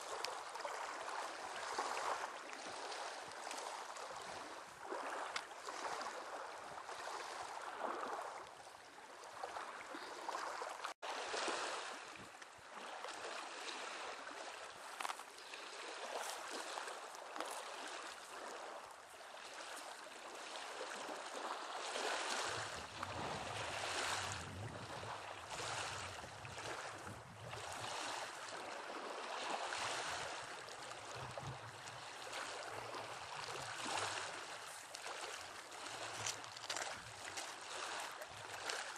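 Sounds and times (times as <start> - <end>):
surf on a beach: 0.0 - 38.9
wind: 0.0 - 38.9.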